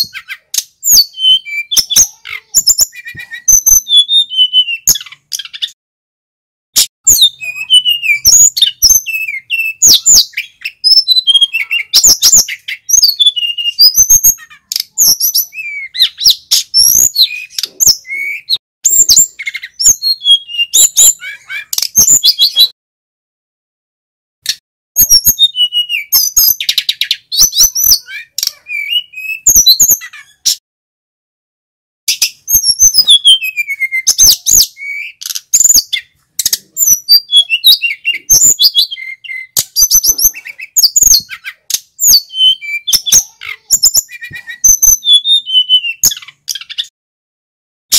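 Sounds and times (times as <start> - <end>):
bird singing rapid high chirps: 0.0 - 5.8, 6.8 - 22.8, 24.5 - 30.6, 32.1 - 46.9.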